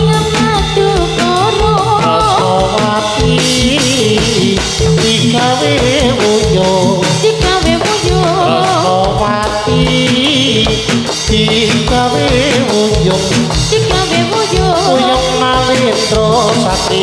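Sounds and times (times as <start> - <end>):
drum beat: 0.0 - 17.0
person singing: 0.0 - 17.0.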